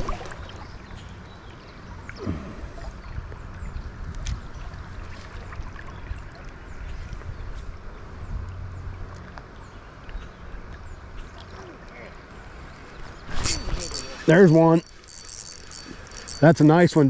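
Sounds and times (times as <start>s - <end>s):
shallow river water flowing: 0.0s - 17.0s.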